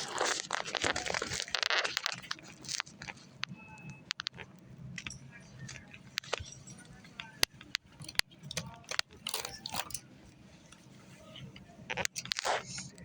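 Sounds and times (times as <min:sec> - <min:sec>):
sharp clicks: 0:00.0 - 0:10.1, 0:11.5 - 0:13.0
crinkly rustling: 0:00.0 - 0:13.0.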